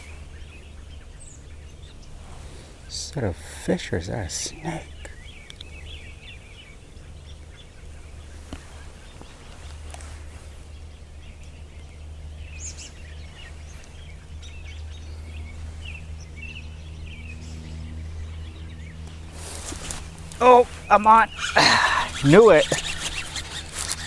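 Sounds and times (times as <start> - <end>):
faint droning tone: 0.0 - 24.0
low outdoor hum: 0.0 - 24.0
small birds chirping: 0.0 - 24.0.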